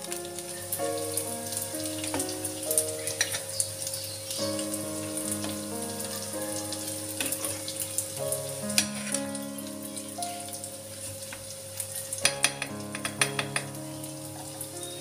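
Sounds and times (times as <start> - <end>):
food sizzling and crackling: 0.0 - 15.0
instrumental background music: 0.0 - 15.0.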